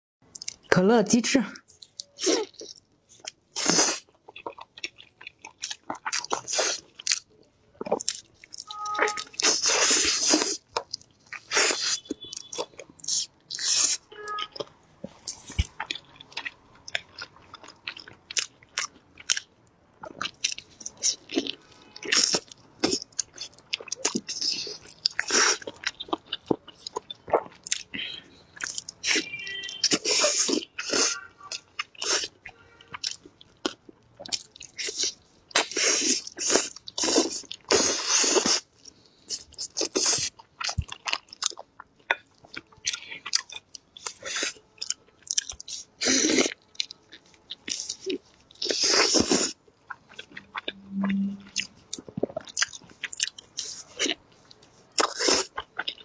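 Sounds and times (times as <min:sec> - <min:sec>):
biting and chewing: 0:01.7 - 0:56.0.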